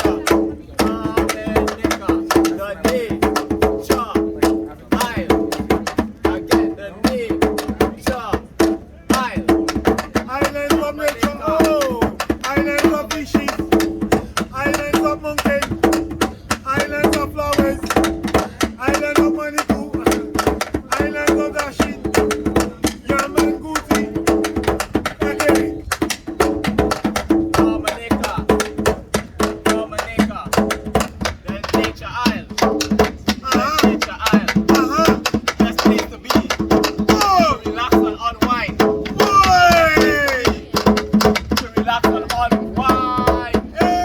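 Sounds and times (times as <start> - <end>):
percussive beat: 0.0 - 44.0
voices: 0.0 - 44.0.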